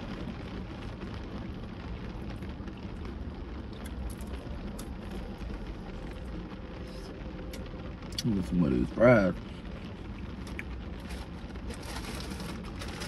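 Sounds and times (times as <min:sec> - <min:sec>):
low hum and hiss in car: 0:00.0 - 0:13.0
rain ticking on car roof: 0:00.0 - 0:13.0.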